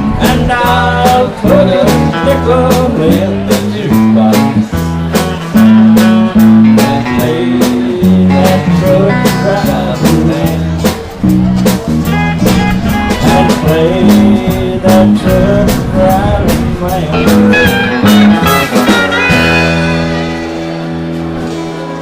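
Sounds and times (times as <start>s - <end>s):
lead guitar: 0.0s - 22.0s
live country band playing: 0.0s - 22.0s.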